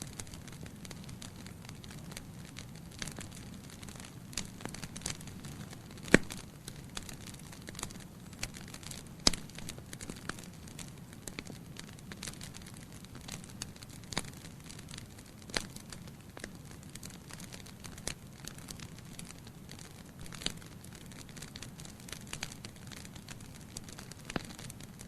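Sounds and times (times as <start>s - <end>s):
wood fire crackling in fireplace: 0.0s - 25.0s.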